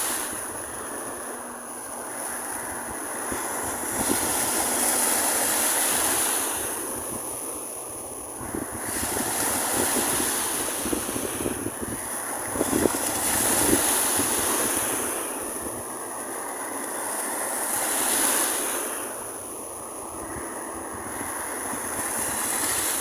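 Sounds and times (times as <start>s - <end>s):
wind buffeting microphone: 0.0s - 16.3s, 19.8s - 23.0s
ocean surf breaking: 0.0s - 23.0s.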